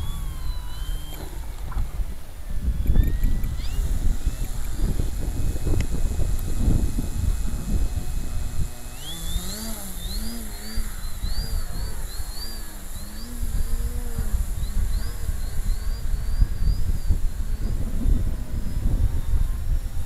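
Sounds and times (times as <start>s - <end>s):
model plane electric motor whining: 0.0s - 20.0s
wind rumble on microphone: 0.0s - 20.0s.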